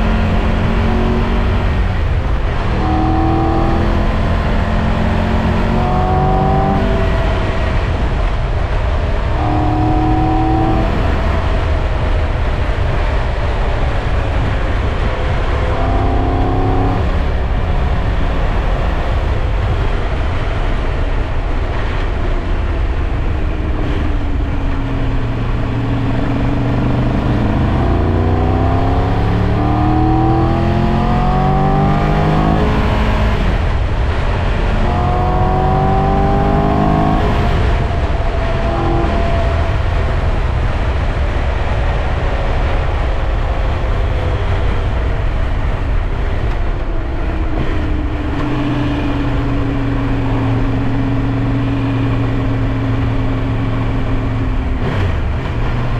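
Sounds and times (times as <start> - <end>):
wind and road noise: 0.0 - 55.9.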